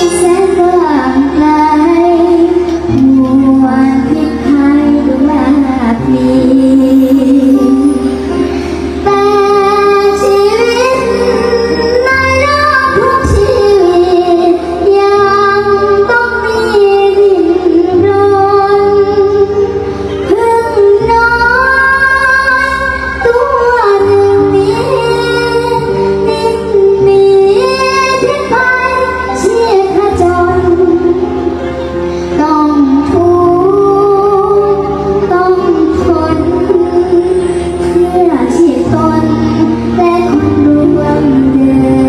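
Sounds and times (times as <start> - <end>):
woman singing: 0.0 - 31.6, 32.3 - 42.0
bass and instrumental accompaniment: 0.0 - 42.0.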